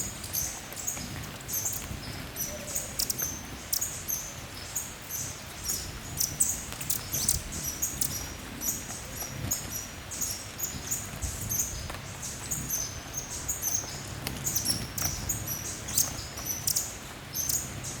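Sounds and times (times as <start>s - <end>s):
hummingbirds chipping: 0.0s - 18.0s.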